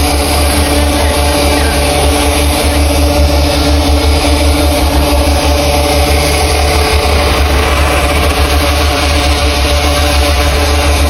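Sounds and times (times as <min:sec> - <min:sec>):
engine hum with low drone: 0:00.0 - 0:11.0
steady tones: 0:00.0 - 0:11.0.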